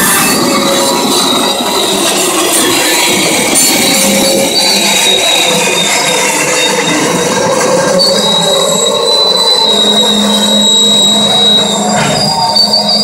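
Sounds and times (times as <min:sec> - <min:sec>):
freight cars rumbling and clattering: 0:00.0 - 0:13.0
train wheels squealing: 0:00.0 - 0:13.0.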